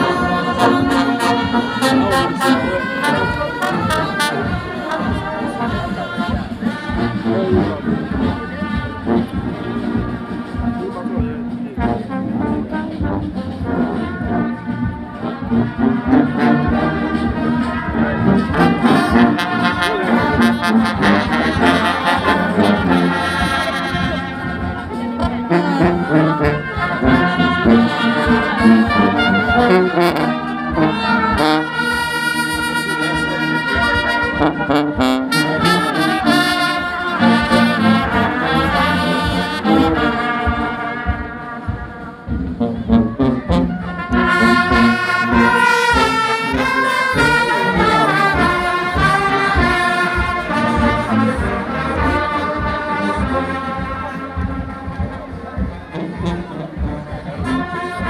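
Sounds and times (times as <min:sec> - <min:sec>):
brass band playing: 0:00.0 - 0:58.0.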